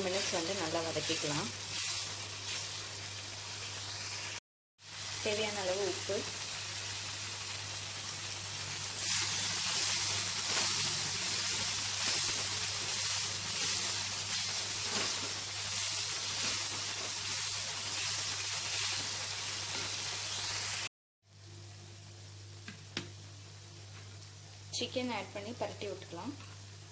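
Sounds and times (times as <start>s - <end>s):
masala sizzling in a pan: 0.0s - 26.9s.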